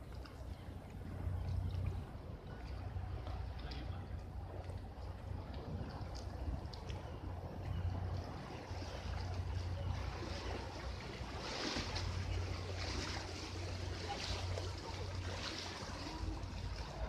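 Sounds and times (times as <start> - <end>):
river water washing: 0.0 - 17.0.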